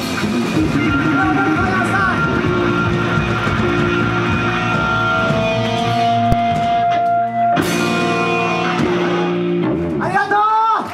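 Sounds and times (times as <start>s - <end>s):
full-band hit: 0.0s - 10.1s
live rock band: 0.0s - 10.9s.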